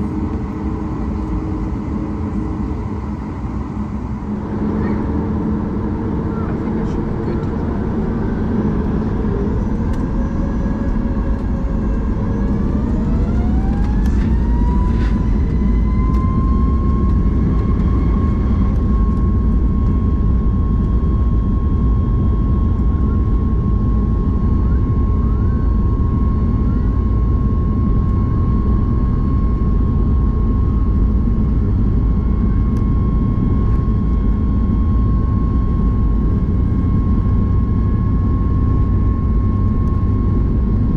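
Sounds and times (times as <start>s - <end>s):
jet engine rumble: 0.0s - 40.9s
jet engine whine: 0.0s - 40.9s.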